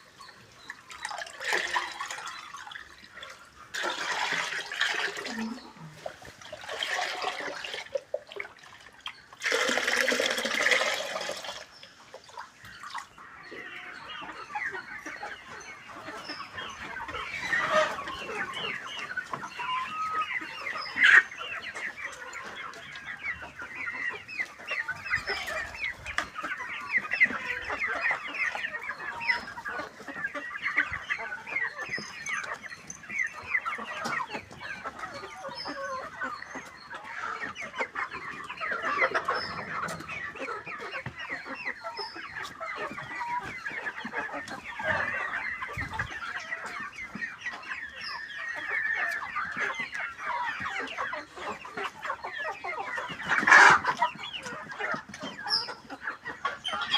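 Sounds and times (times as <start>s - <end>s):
chickens clucking: 0.0s - 56.9s.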